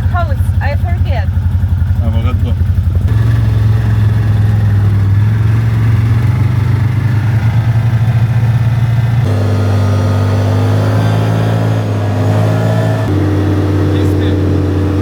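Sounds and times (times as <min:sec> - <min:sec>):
car engine humming while driving: 0:00.0 - 0:15.0.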